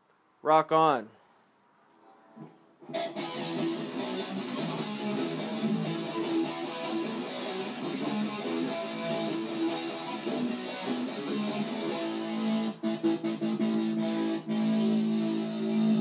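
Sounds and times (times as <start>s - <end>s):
electric guitar strumming chords: 2.8s - 16.0s.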